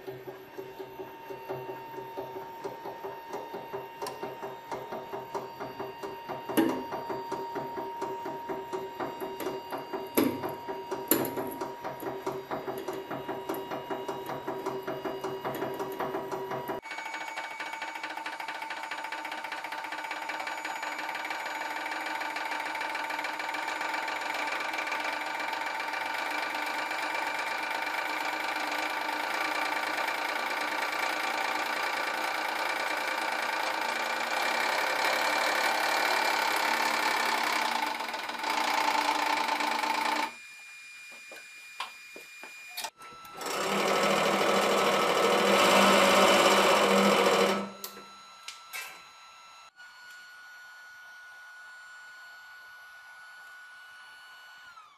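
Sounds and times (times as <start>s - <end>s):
hydraulic press pump buzzing: 0.0s - 54.9s.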